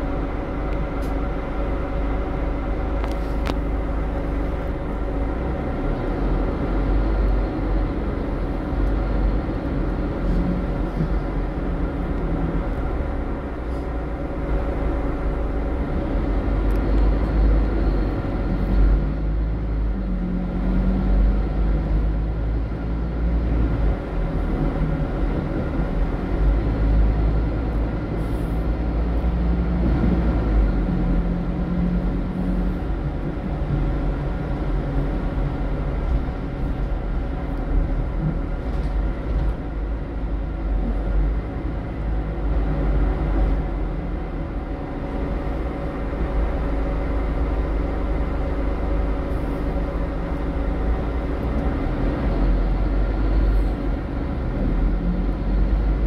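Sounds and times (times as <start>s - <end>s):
bus diesel engine rumble: 0.0s - 56.0s
road noise: 0.0s - 56.0s.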